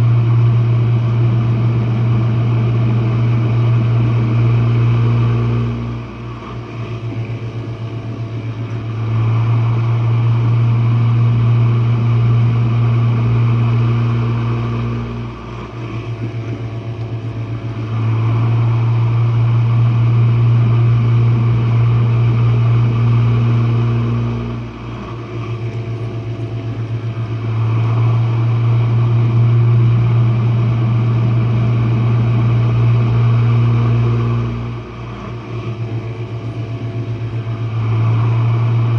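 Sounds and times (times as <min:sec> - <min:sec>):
dishwasher pump motor humming: 0:00.0 - 0:38.9.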